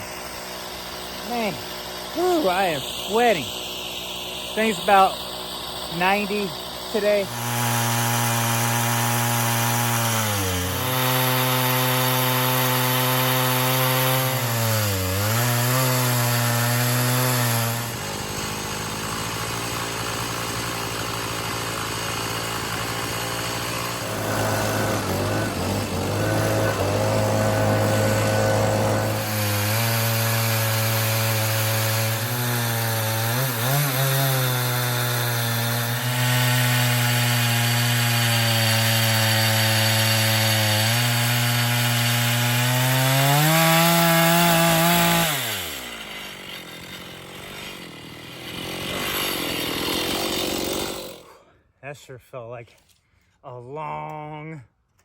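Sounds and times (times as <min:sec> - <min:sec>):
chainsaw cutting through log: 0:00.0 - 0:51.7.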